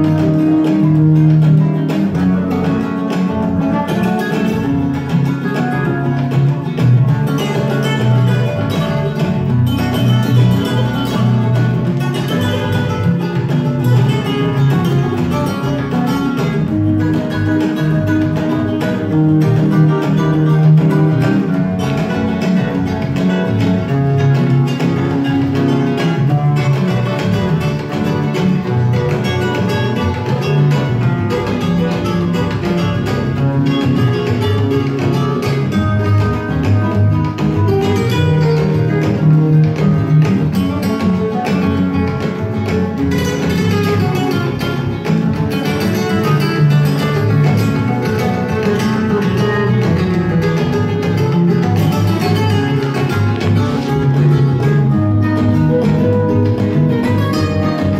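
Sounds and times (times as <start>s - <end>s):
guitar music from vinyl record: 0.0s - 57.9s.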